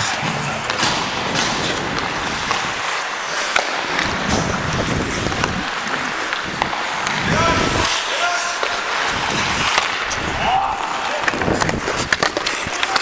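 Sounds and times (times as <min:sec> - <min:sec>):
hockey sticks and puck clacking: 0:00.0 - 0:13.0
skates scraping ice: 0:00.0 - 0:13.0.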